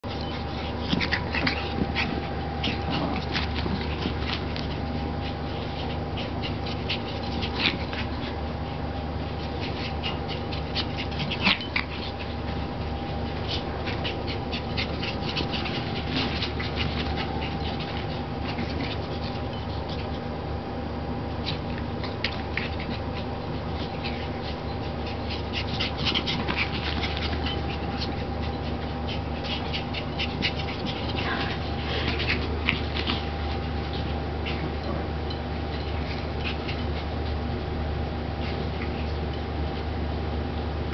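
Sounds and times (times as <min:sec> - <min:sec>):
dog vocalisation: 0:00.0 - 0:20.3, 0:21.4 - 0:35.1
dog paws scrambling: 0:00.0 - 0:40.9
steady hum: 0:00.0 - 0:40.9.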